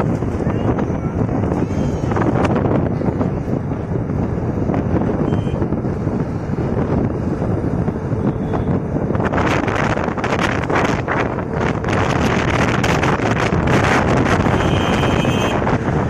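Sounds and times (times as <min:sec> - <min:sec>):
vehicle road noise: 0:00.0 - 0:16.0
wind buffeting microphone: 0:00.0 - 0:16.0.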